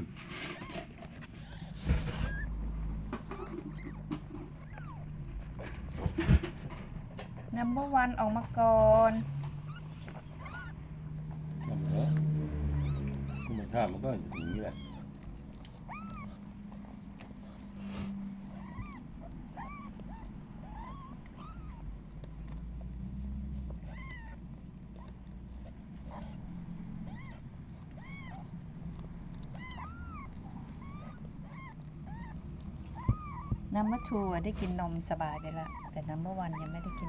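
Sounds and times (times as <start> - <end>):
kittens mewing: 0.0 - 37.0.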